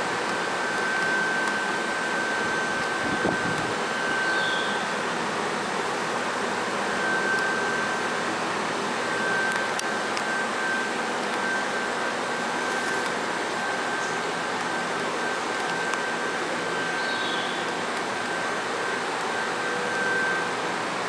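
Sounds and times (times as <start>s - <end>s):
thin high whine: 0.0s - 21.0s
train equipment hiss and hum: 0.0s - 21.0s.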